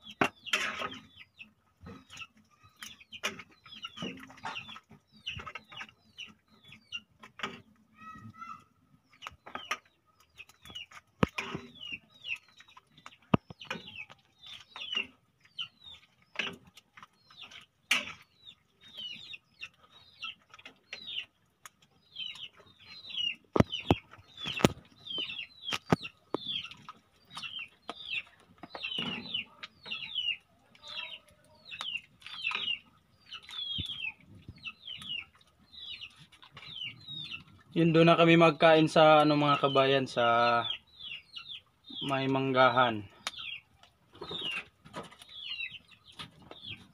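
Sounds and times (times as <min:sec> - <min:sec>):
chicks peeping: 0:00.0 - 0:46.9.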